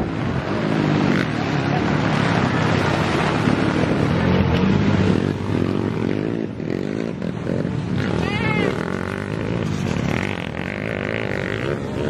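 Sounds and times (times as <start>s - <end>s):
dirt bike engine revving: 0.4s - 12.0s.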